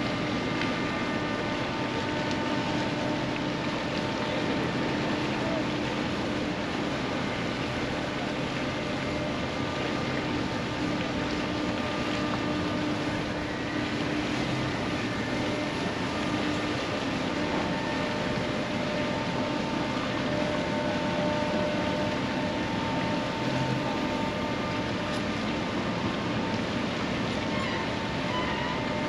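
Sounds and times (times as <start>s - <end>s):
ship engine hum: 0.0s - 29.0s.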